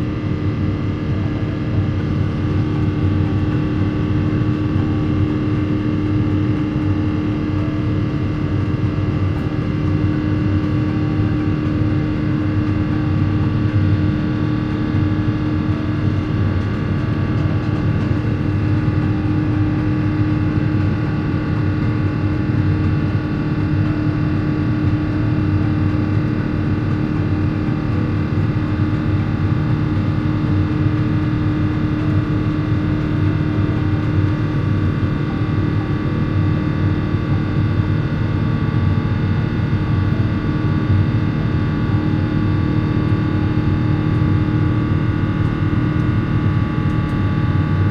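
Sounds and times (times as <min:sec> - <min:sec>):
aircraft cabin drone: 0:00.0 - 0:47.9.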